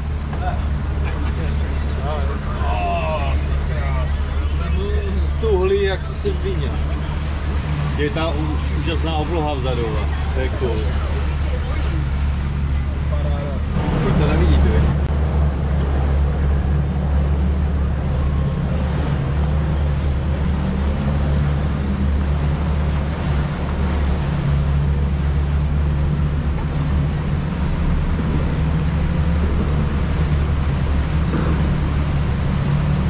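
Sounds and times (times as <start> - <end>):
outboard engines droning: 0.0 - 33.0
water washing along hull: 0.0 - 33.0.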